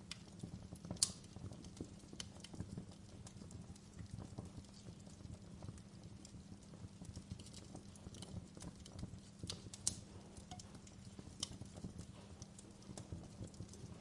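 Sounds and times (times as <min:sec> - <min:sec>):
fire burning rumble: 0:00.0 - 0:14.0
wood fire snaps and pops: 0:00.0 - 0:14.0.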